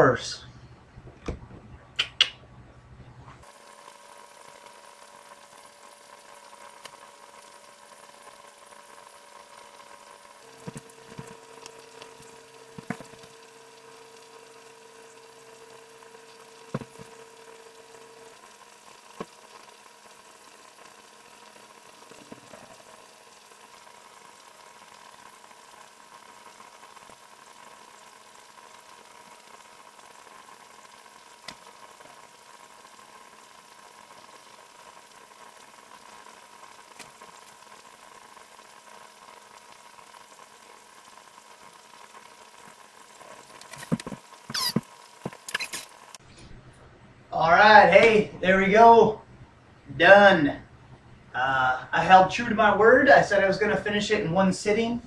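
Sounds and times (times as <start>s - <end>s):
faint steady hiss: 3.3s - 55.0s.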